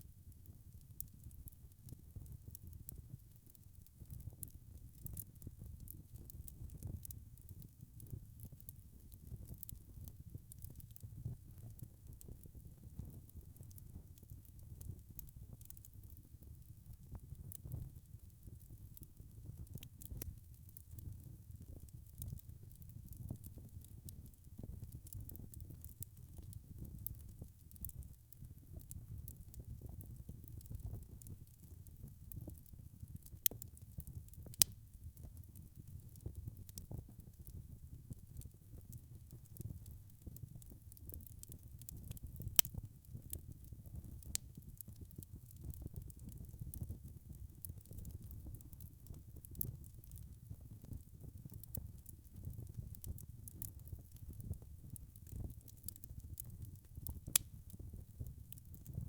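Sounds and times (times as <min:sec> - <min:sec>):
low rumble of flames: 0:00.0 - 0:59.0
fire crackling and popping: 0:00.1 - 0:59.0.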